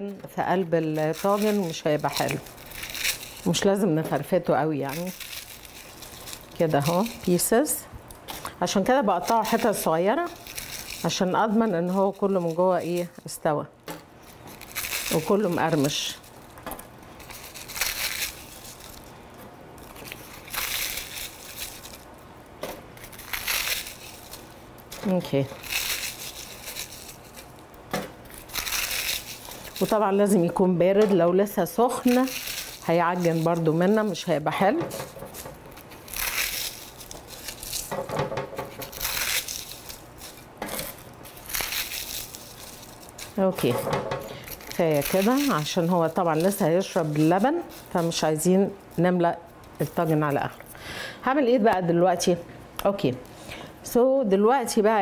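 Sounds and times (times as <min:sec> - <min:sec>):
pastry crunching by hand: 0:00.7 - 0:13.4, 0:14.0 - 0:30.7, 0:31.4 - 0:50.6.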